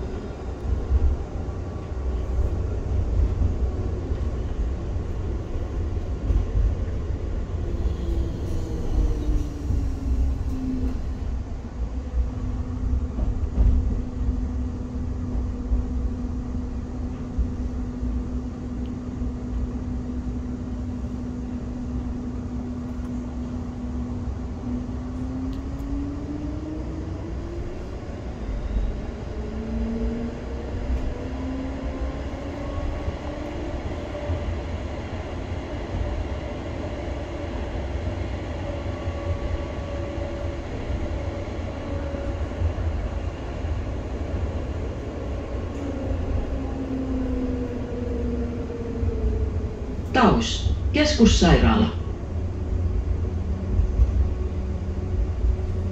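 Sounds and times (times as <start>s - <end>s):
wheels rumbling on rail: 0.0s - 55.9s.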